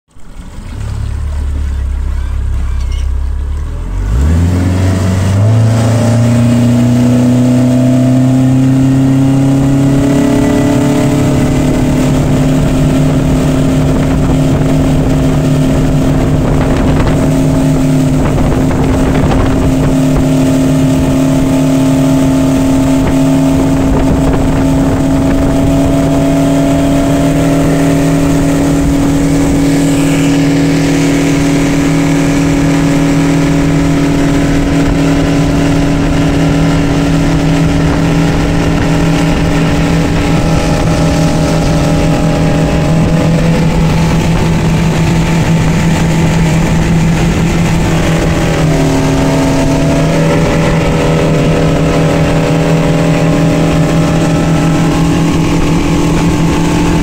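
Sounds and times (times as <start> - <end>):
outboard motor running: 0.1 - 57.0.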